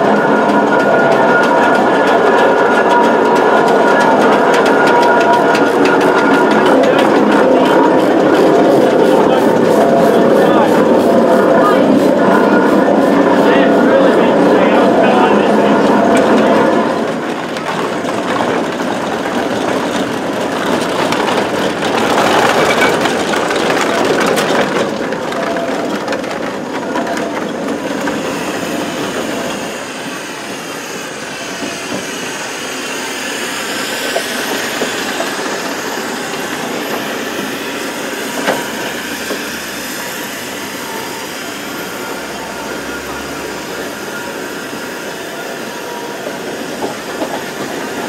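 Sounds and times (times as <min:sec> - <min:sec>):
steam wagon engines clattering: 0:00.0 - 0:48.0.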